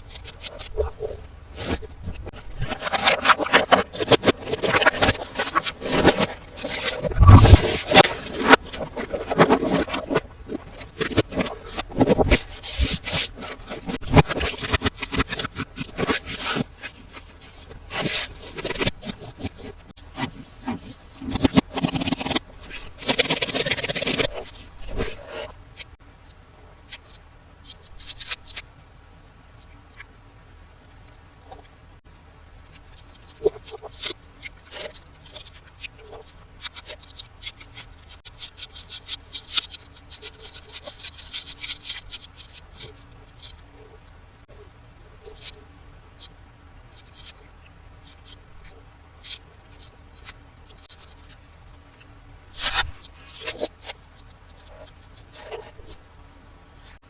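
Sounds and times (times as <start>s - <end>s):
hands rubbing and scraping toys: 0.0s - 28.8s, 32.6s - 56.0s.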